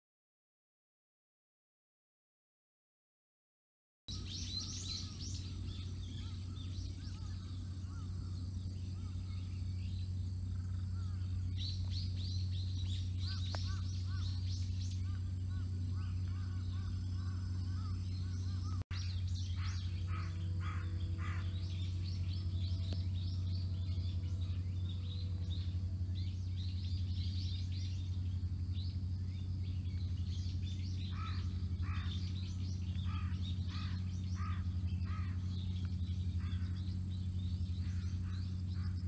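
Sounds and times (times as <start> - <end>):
birds chirping: 4.1 - 39.0
steady low hum: 4.1 - 39.0.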